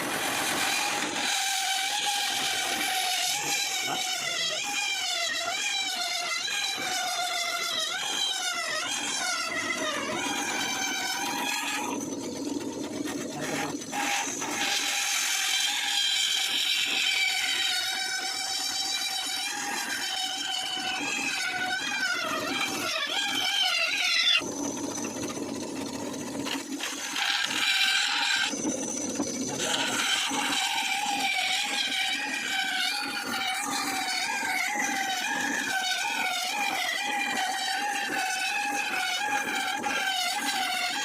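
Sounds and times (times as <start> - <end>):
electric drill motor whine: 0.0 - 41.0
grinding stone on saw blade: 0.0 - 41.0.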